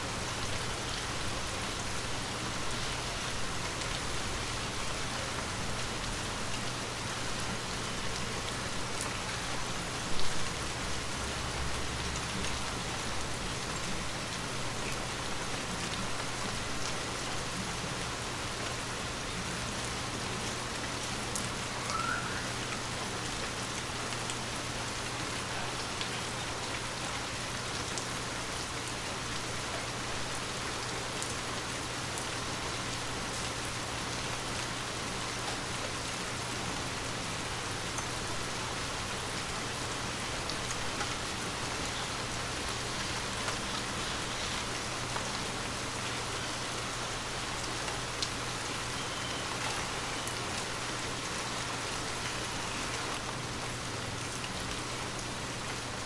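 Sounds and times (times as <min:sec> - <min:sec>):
steady rain on a window: 0:00.0 - 0:56.0.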